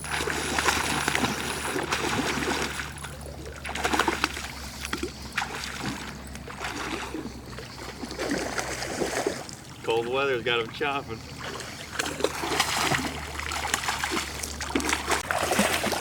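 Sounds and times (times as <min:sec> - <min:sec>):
low steady hum: 0:00.0 - 0:16.0
river water running: 0:00.0 - 0:16.0
water splashes: 0:00.0 - 0:16.0.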